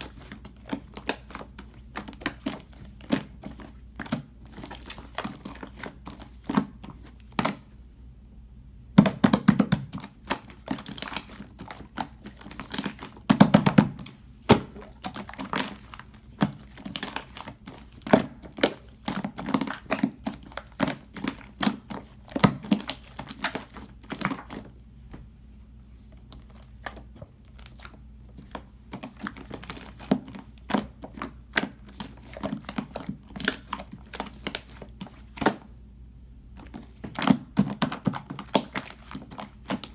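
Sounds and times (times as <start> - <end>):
slime squishing by hand: 0.0 - 7.8, 8.9 - 35.8, 36.4 - 39.9.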